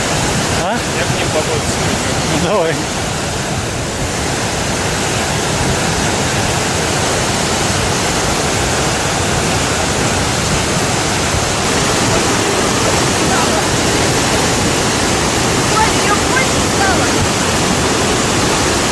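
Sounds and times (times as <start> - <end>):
floodwater rushing: 0.0 - 18.9.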